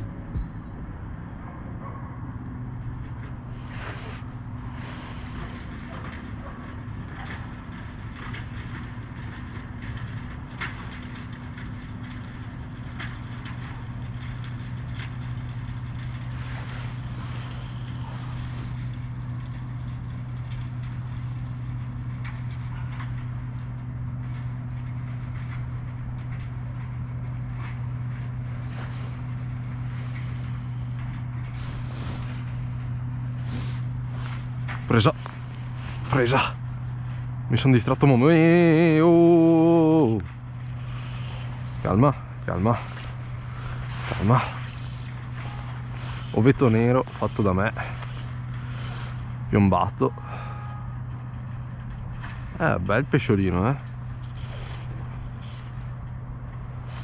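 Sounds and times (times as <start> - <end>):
low motor-like hum: 0.0 - 57.0.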